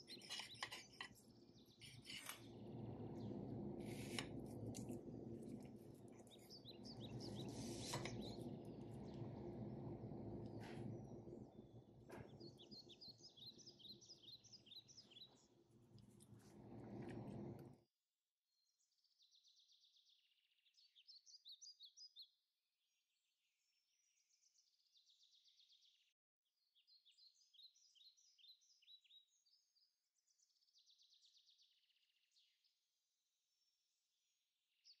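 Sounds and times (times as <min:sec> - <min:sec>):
faint birdsong: 0:00.0 - 0:17.6, 0:18.6 - 0:32.8.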